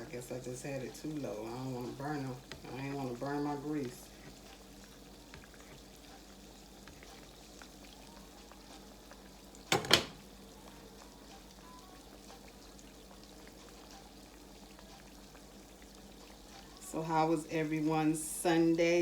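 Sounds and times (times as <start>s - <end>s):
food frying in hot grease: 0.0s - 19.0s.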